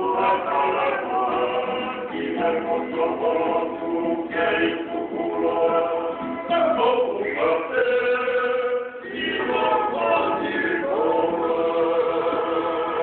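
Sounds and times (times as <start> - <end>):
men singing in harmony: 0.0 - 13.0
strummed acoustic guitars: 0.0 - 13.0.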